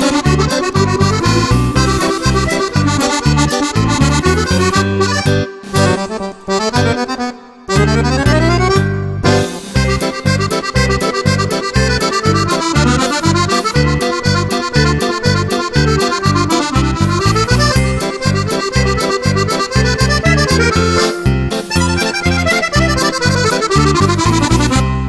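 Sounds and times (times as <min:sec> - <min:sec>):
fast upbeat background music: 0:00.0 - 0:07.0, 0:07.7 - 0:24.8.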